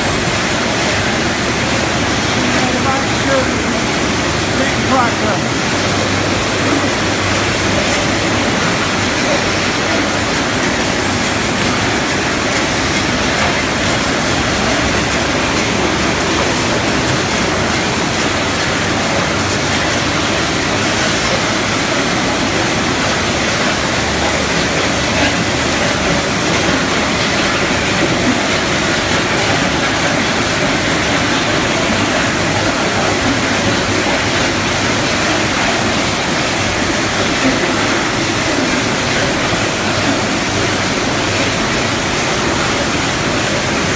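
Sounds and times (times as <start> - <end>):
loud conveyor machinery noise: 0.0 - 43.9.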